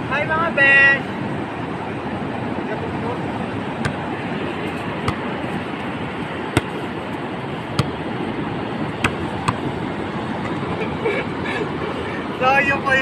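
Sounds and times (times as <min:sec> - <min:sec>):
surf rushing: 0:00.0 - 0:13.0.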